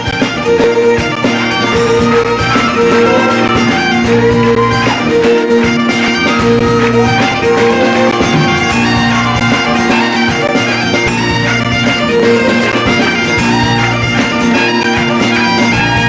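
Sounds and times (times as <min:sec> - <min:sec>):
fiddle-led folk band playing: 0:00.0 - 0:16.0
repeated bass notes: 0:00.0 - 0:16.0.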